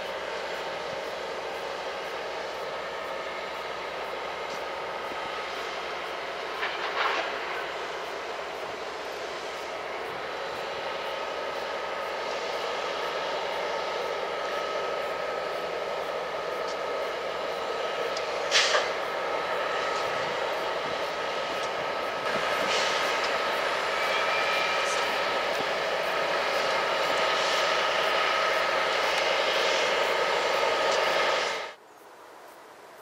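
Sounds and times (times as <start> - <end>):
freight locomotives running past: 0.0 - 33.0.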